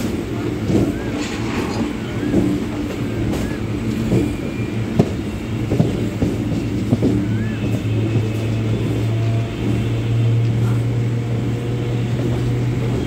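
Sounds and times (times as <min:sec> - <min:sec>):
train hum: 0:00.0 - 0:13.0
wheels clicking on track: 0:00.0 - 0:13.0.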